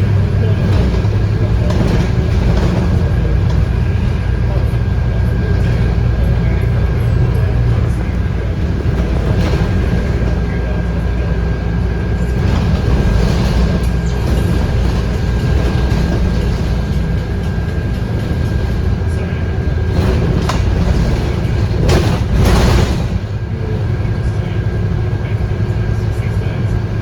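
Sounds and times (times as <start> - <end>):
bus diesel engine drone: 0.0 - 27.0
road noise: 0.0 - 27.0.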